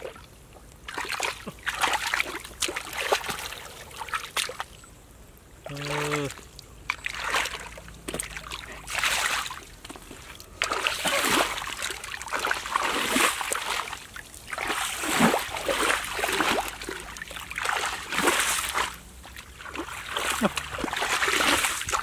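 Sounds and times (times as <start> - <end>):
feet wading through muddy water: 0.0 - 4.8, 5.6 - 22.0.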